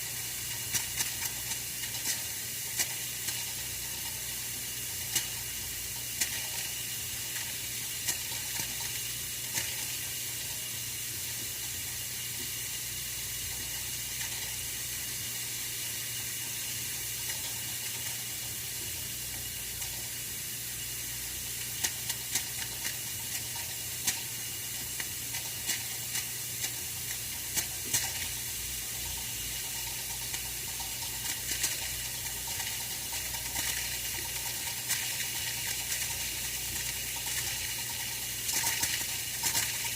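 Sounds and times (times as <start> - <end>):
radiator heater hiss and hum: 0.0 - 39.9.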